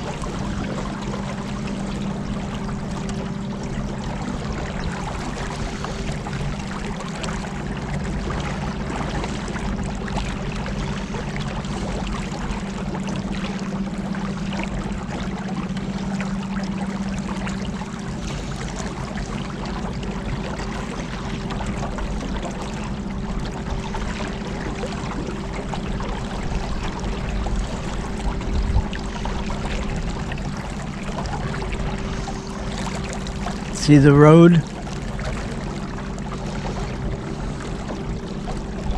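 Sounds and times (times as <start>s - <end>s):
motorboat engine humming: 0.0s - 38.9s
water rushing along hull: 0.0s - 38.9s.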